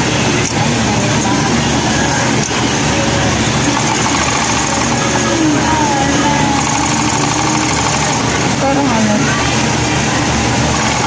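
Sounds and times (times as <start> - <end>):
sewing machines running: 0.0 - 11.0.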